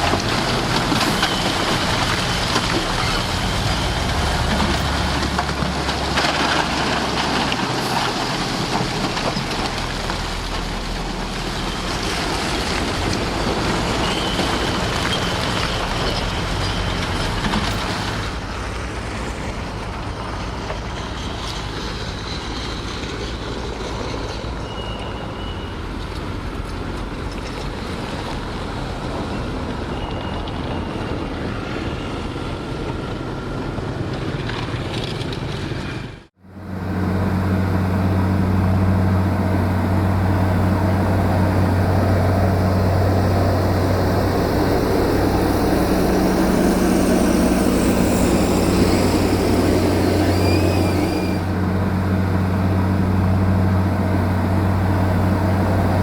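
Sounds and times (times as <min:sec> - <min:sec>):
loud engine low hum: 0:00.0 - 0:25.2, 0:36.2 - 0:56.0
earth-moving machine diesel engine: 0:00.0 - 0:56.0.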